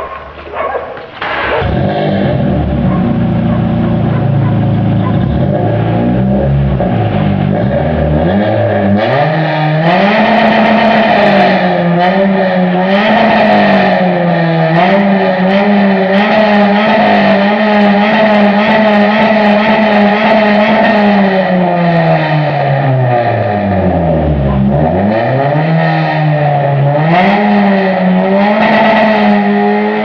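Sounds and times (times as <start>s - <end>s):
race car engine revving: 0.0s - 30.0s.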